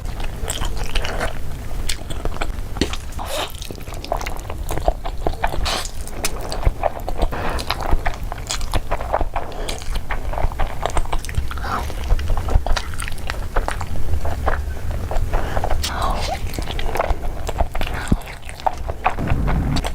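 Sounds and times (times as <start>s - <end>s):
person chewing food: 0.1s - 19.9s.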